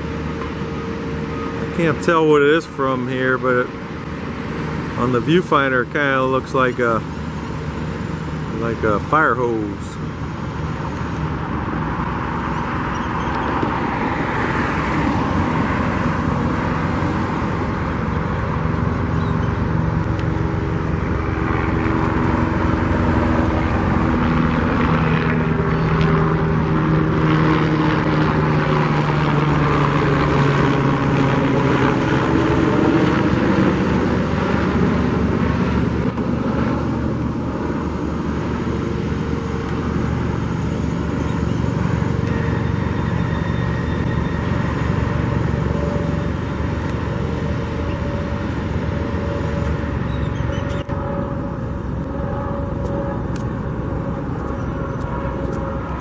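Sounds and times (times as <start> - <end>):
passing engine drone: 0.0 - 56.0
traffic noise: 0.0 - 56.0.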